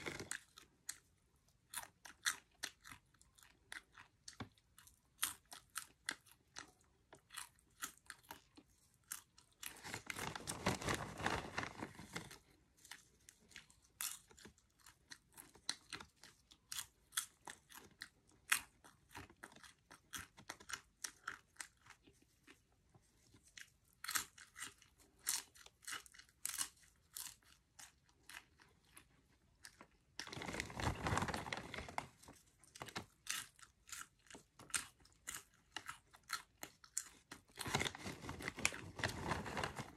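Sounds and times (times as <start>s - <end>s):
popcorn being chewed: 0.0s - 39.9s.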